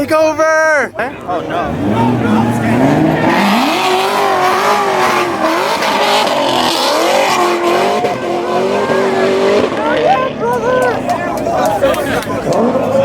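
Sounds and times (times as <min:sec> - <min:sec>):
car engine revving high: 0:01.6 - 0:11.0, 0:12.0 - 0:13.0.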